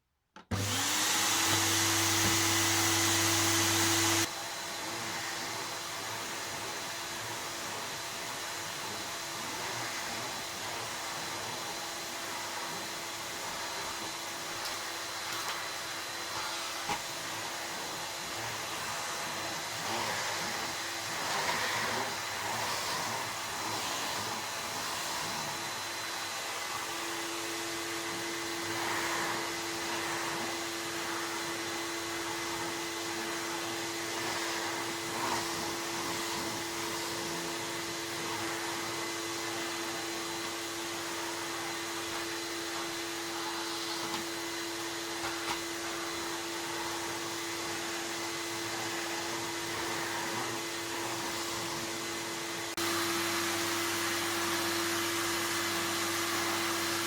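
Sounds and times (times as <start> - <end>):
vacuum cleaner running: 0.4 - 57.0.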